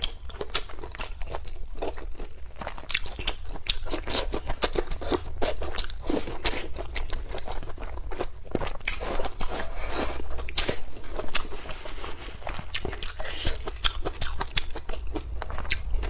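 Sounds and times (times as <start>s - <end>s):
person chewing crunchy pepper: 0.0s - 16.0s.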